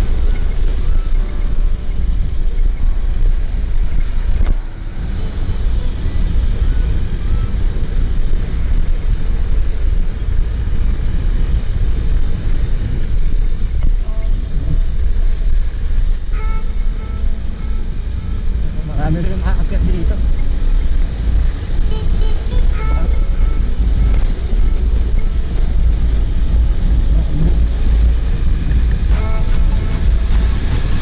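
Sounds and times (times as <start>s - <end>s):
vehicle engine and road noise: 0.0s - 31.0s
wind rumble on microphone: 0.0s - 31.0s.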